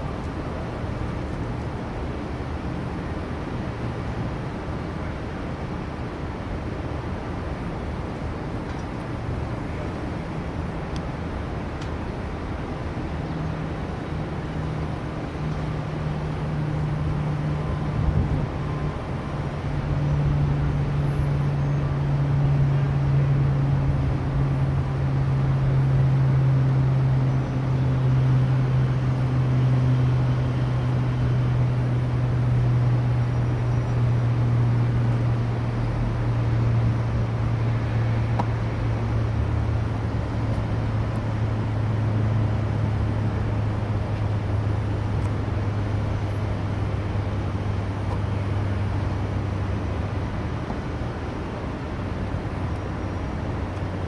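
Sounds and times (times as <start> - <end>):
city traffic noise: 0.0 - 54.0
low mechanical hum: 0.0 - 54.0.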